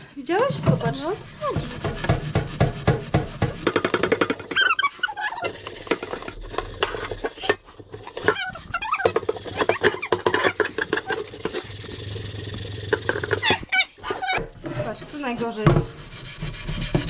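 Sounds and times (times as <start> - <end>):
sponge scrubbing a frying pan: 0.0 - 14.4, 15.1 - 17.0.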